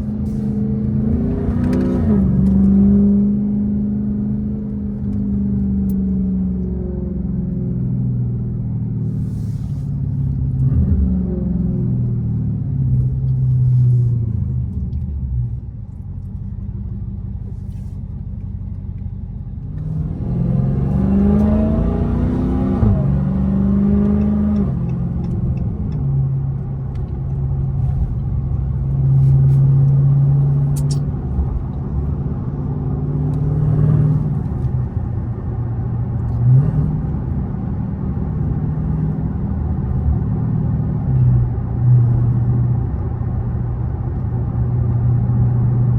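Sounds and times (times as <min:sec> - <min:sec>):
car engine droning: 0:00.0 - 0:45.9.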